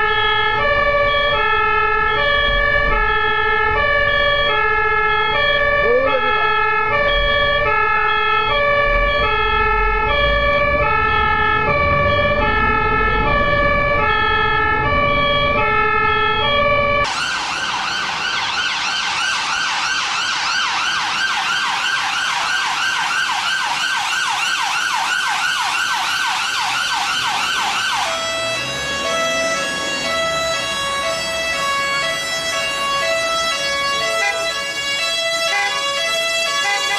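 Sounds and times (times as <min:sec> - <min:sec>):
ambulance siren fast yelp: 0:00.0 - 0:36.9
ambulance two-tone siren: 0:00.0 - 0:36.9
road and engine rumble: 0:00.0 - 0:36.9.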